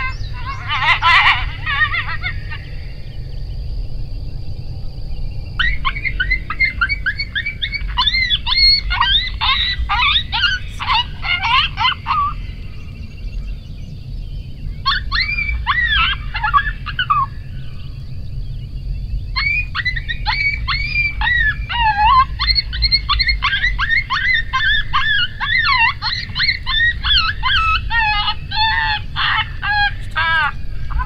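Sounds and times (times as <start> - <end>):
coyote yipping and howling: 0.0 - 4.6, 5.2 - 31.0
low wind rumble: 0.0 - 31.0.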